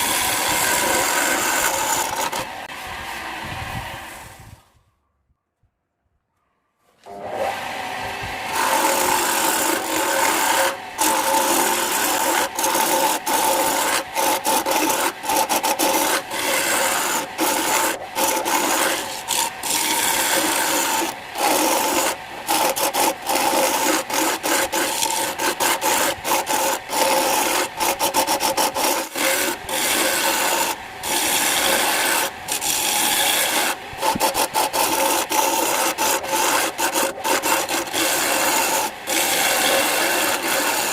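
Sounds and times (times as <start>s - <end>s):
tool rasping on spinning wood: 0.0s - 2.7s, 7.0s - 40.9s
wood lathe running: 0.0s - 3.4s, 7.0s - 40.9s.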